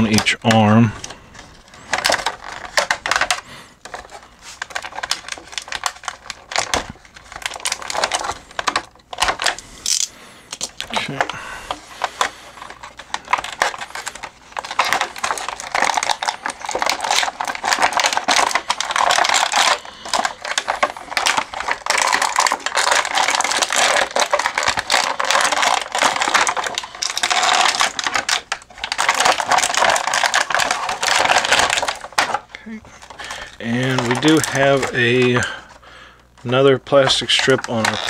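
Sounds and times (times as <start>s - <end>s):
plastic blister crinkling: 0.0s - 38.0s.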